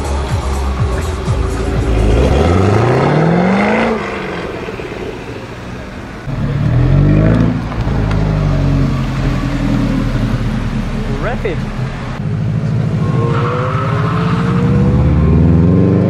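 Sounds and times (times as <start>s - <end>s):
sports car engine accelerating: 0.4s - 16.0s.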